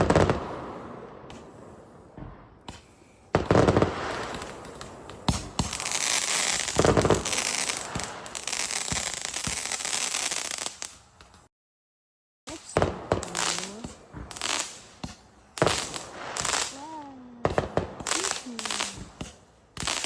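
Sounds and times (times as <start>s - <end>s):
fireworks boom: 0.0s - 9.8s, 12.5s - 20.0s
fireworks crackling: 0.0s - 11.5s, 12.5s - 20.0s.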